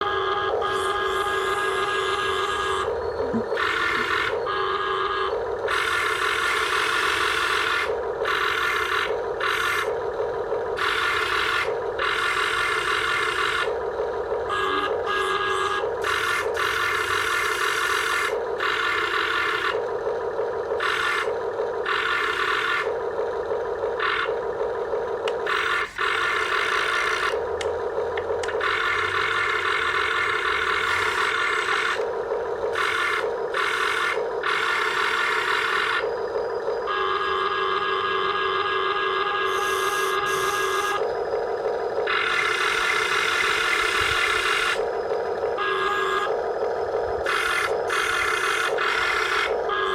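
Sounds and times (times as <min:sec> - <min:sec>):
high-pitched grinding whine: 0:00.0 - 0:49.9
electric toy motors whirring: 0:00.1 - 0:10.0, 0:10.6 - 0:13.8, 0:14.5 - 0:49.9.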